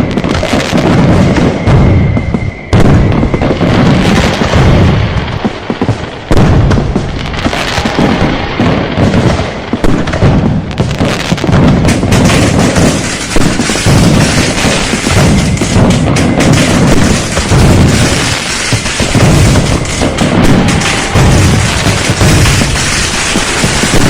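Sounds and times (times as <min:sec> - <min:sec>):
firecrackers and fireworks exploding: 0:00.0 - 0:24.0.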